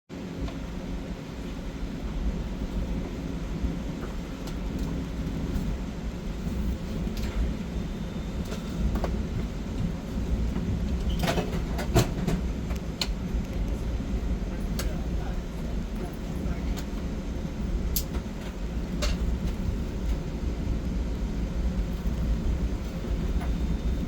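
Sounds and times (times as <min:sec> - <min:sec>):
train rumbling on track: 0:00.1 - 0:24.0.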